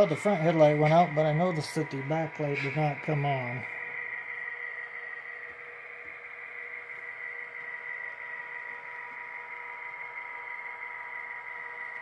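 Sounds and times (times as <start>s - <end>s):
model train hum and whine: 0.0s - 12.0s.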